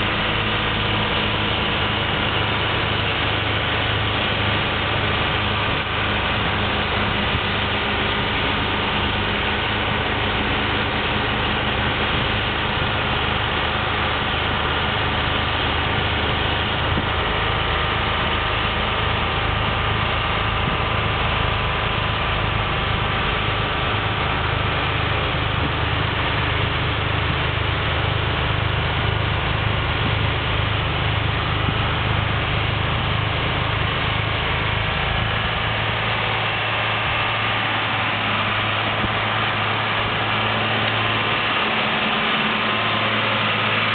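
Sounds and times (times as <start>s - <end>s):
tractor diesel engine drone: 0.0s - 43.9s.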